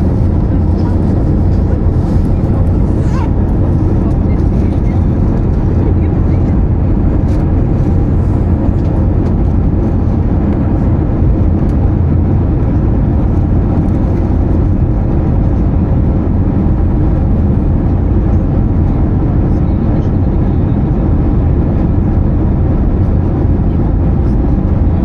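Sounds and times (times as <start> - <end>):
airplane cabin rumble: 0.0 - 25.0.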